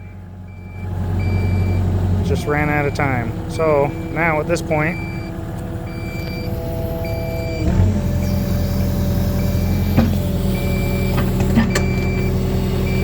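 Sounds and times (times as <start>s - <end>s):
alarm beeping: 0.0s - 1.8s, 2.4s - 13.0s
diesel engine running: 0.0s - 13.0s
heavy low hydraulic rumble: 0.0s - 13.0s.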